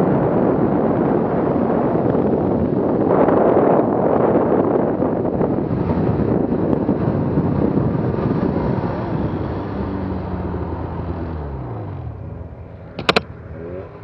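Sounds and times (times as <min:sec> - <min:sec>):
rushing wind noise: 0:00.0 - 0:14.0.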